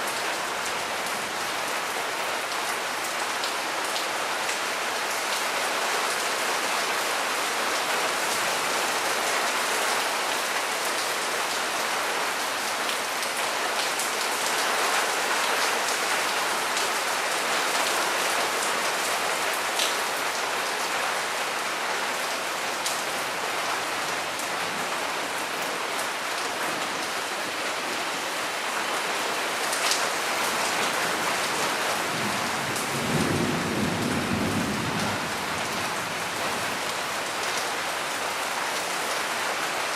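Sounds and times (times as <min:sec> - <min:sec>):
rain pouring down: 0:00.0 - 0:39.9.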